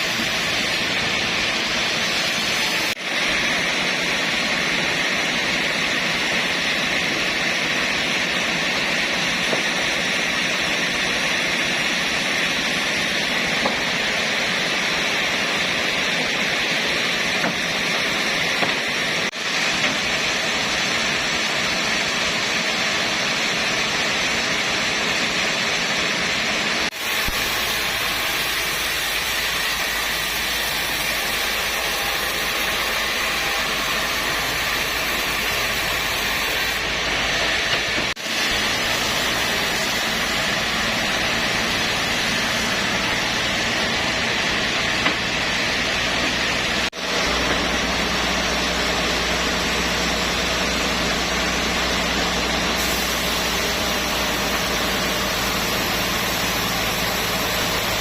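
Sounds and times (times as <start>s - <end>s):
sawmill saw running: 0.0s - 58.0s.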